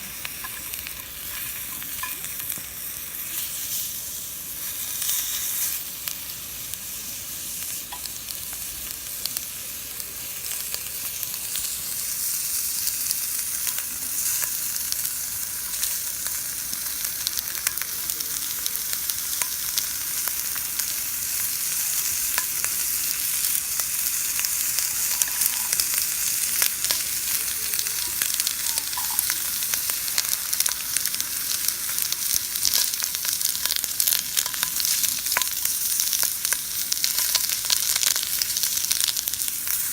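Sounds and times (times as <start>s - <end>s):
food sizzling in grill pan: 0.0s - 39.9s.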